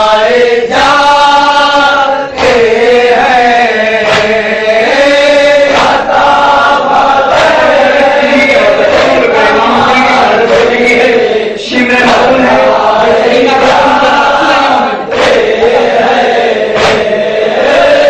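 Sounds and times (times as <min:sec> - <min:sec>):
man chanting into a microphone: 0:00.0 - 0:18.0
men chanting together: 0:00.0 - 0:18.0.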